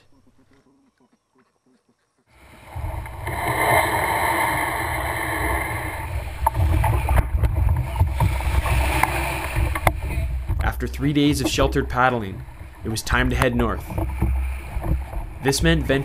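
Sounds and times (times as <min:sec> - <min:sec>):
surf washing around canoe: 0:02.4 - 0:16.0
wind buffeting microphone: 0:02.4 - 0:16.0.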